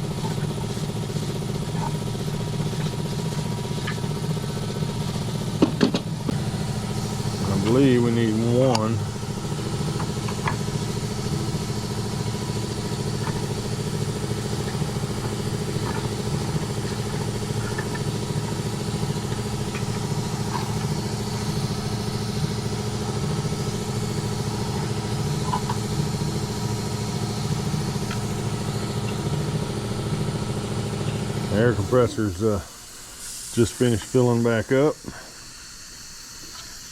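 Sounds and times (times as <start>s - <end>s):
air compressor running: 0.0s - 36.9s.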